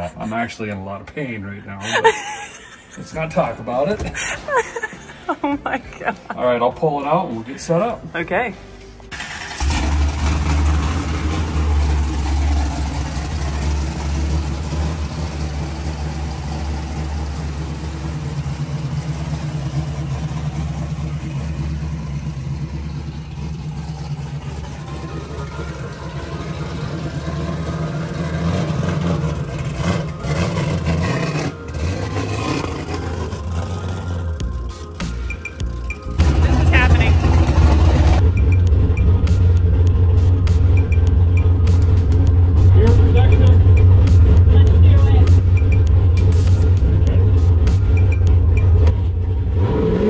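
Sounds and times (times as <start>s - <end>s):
car engine starting and idling: 7.4s - 50.0s.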